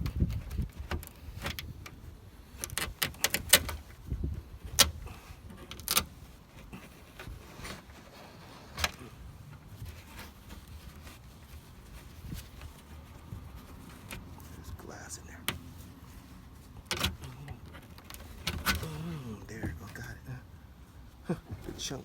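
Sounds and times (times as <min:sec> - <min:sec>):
scraping: 0:00.0 - 0:22.0.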